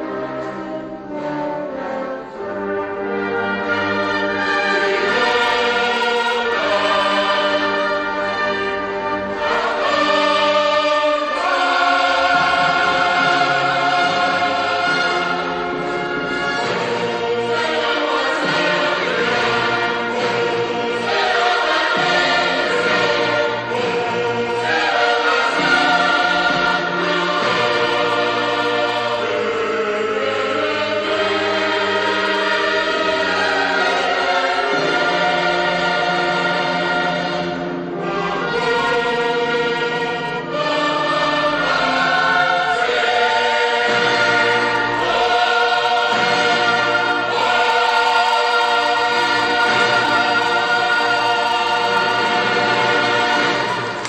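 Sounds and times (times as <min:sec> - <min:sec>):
brass band playing: 0:00.0 - 0:54.0
choir singing a hymn: 0:00.0 - 0:54.0.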